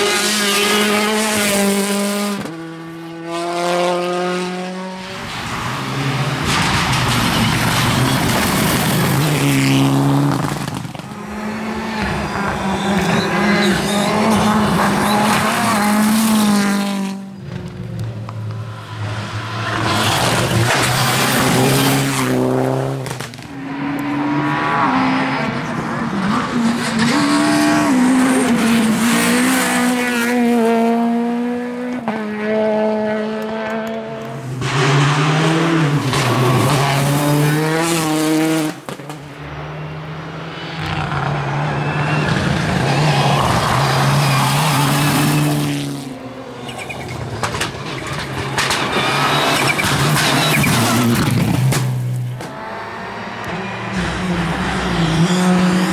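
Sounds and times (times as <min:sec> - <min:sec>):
rally cars revving past: 0:00.0 - 0:55.9.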